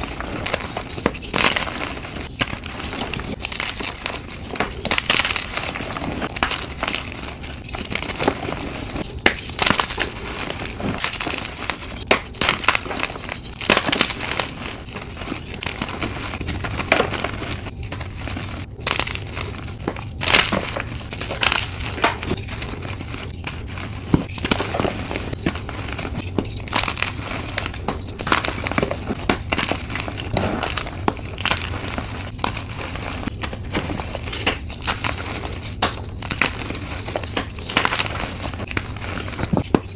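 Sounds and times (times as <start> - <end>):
hands crushing chalk: 0.0 - 39.9.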